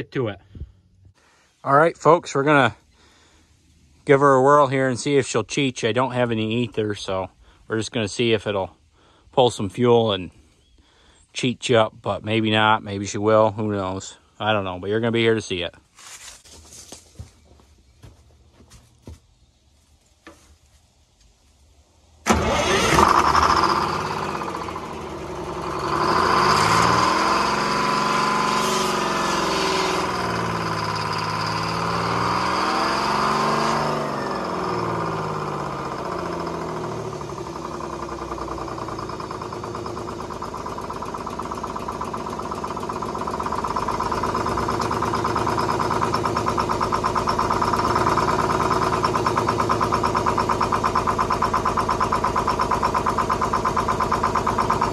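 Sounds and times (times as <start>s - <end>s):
diesel engine starting and idling: 0.0s - 15.7s, 22.0s - 54.9s.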